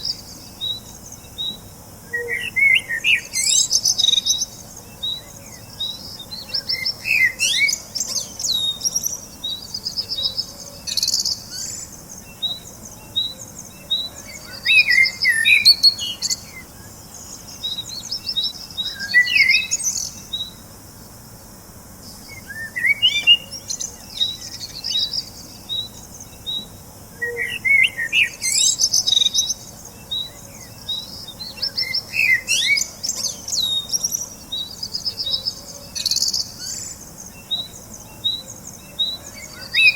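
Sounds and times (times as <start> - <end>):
birds chirping and singing: 0.0 - 20.6, 22.1 - 39.9.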